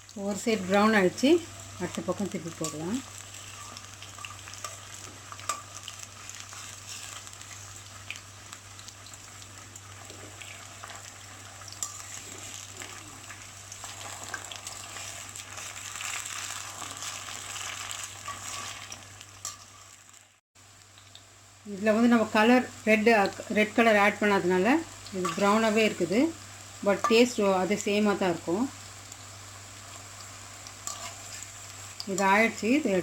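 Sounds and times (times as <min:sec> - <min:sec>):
food deep-frying in oil: 0:00.0 - 0:33.0.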